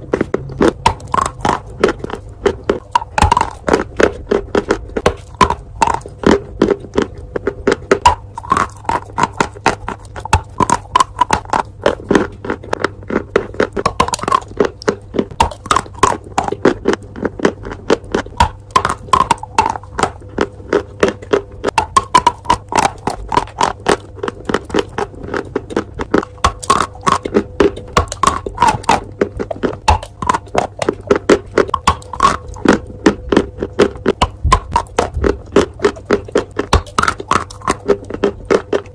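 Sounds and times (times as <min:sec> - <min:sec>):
chalk crunching while chewed: 0:00.0 - 0:38.9.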